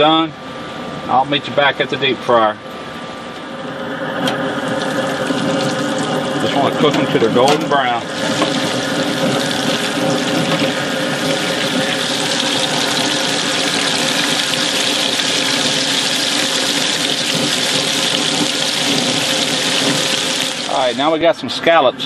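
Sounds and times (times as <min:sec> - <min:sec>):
deep fryer oil sizzling: 0:02.8 - 0:21.8.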